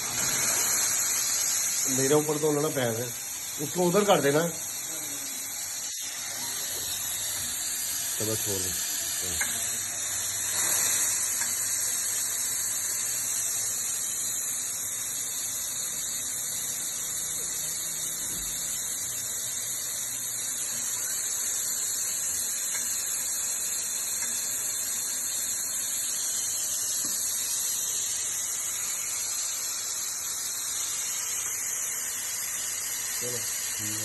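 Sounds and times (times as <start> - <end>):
espresso machine steam wand hissing: 0.0 - 34.0.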